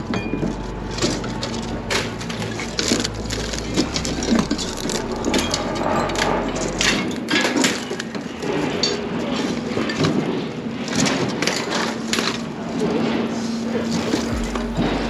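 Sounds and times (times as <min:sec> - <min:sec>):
scrap metal clanking and scraping: 0:00.0 - 0:12.5.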